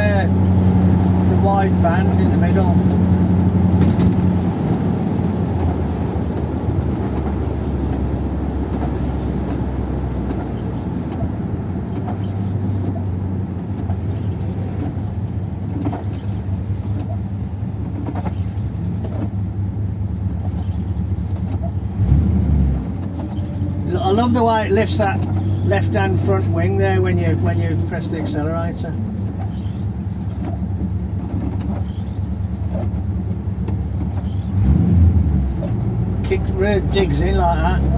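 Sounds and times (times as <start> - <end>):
car engine droning: 0.0 - 37.9
road noise: 0.0 - 37.9.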